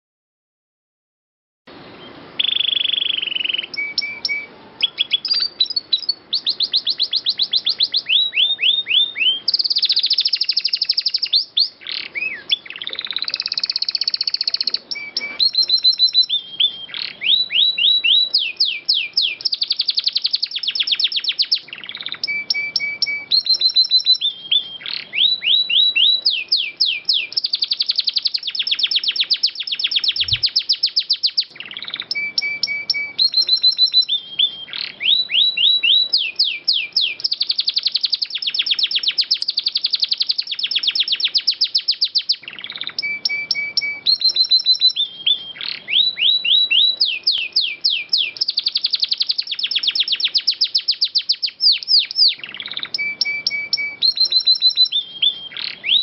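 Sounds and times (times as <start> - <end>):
canary singing in trills: 1.7 - 56.0.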